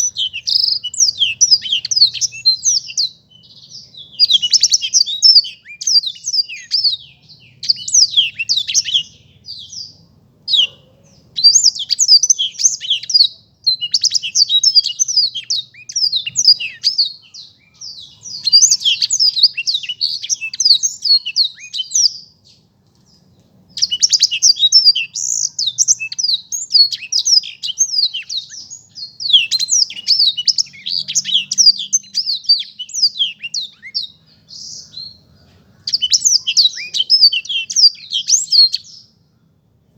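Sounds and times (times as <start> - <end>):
canary singing rapid chirps: 0.0 - 39.2.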